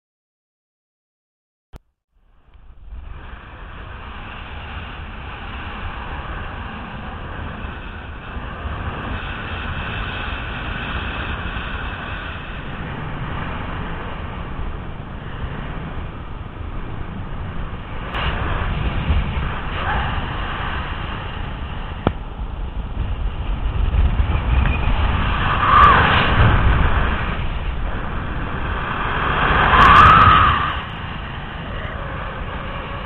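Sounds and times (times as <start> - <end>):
wind rushing over microphone: 2.2 - 33.0.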